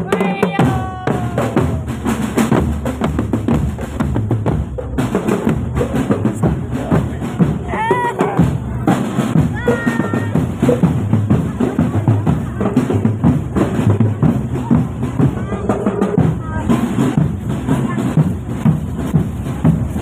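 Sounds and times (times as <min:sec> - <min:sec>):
marching drum band: 0:00.0 - 0:20.0.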